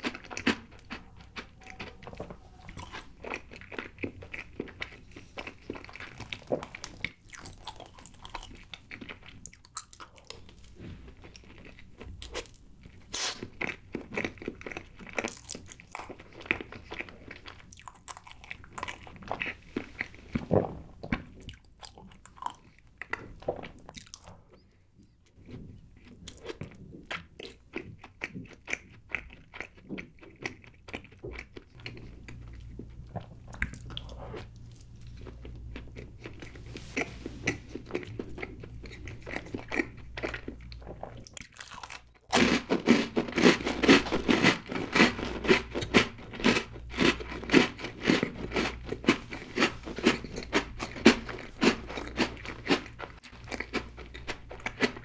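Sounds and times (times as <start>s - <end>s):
low steady hum: 0.0s - 55.0s
person chewing cake: 0.0s - 55.0s.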